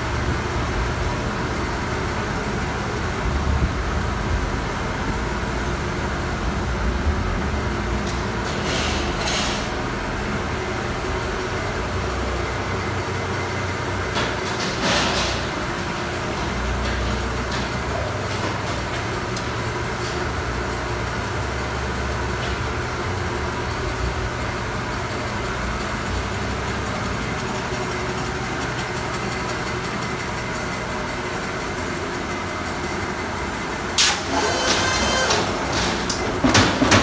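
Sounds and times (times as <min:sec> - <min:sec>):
punch press mechanical hum: 0:00.0 - 0:37.0.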